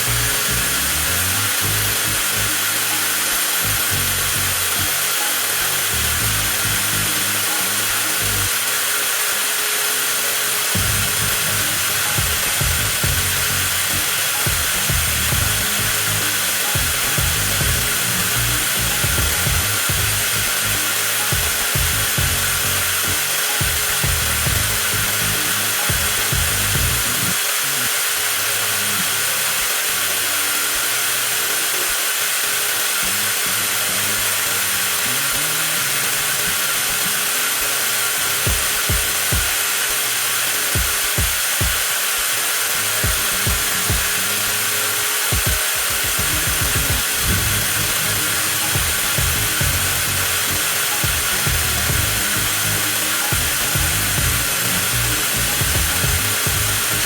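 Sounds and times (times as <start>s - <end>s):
angle grinder whining: 0.0s - 57.0s.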